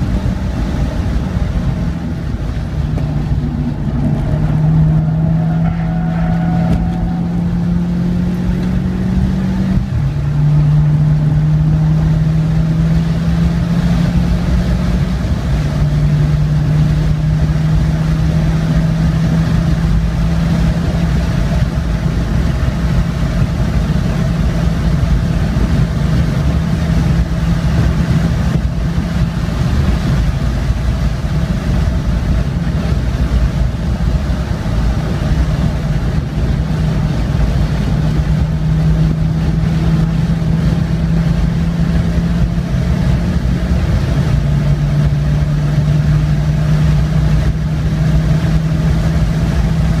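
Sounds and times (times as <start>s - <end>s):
car engine droning: 0.0s - 50.0s
tyre and wind noise: 0.0s - 50.0s.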